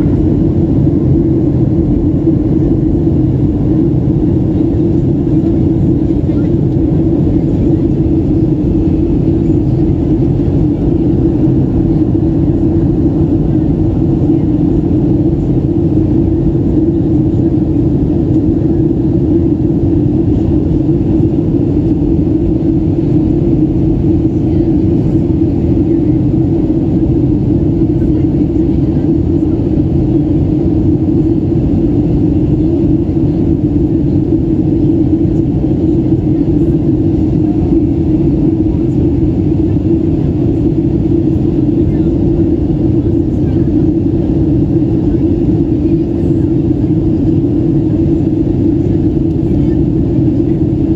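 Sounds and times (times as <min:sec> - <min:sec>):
jet cabin engine rumble: 0:00.0 - 0:50.9.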